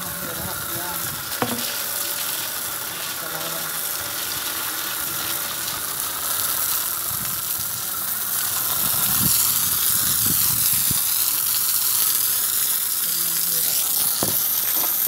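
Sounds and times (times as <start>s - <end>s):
hose water spraying concrete: 0.0s - 15.0s.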